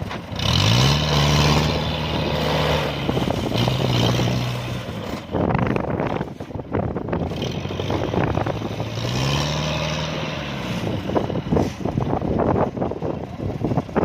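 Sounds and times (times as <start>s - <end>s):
diesel engine revving under load: 0.0s - 14.0s.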